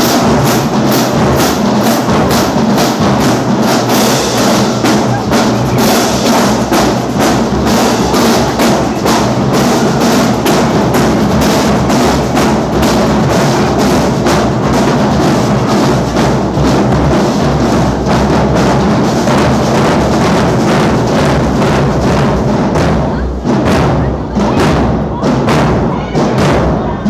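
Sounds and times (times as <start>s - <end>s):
drumline playing: 0.0s - 27.0s.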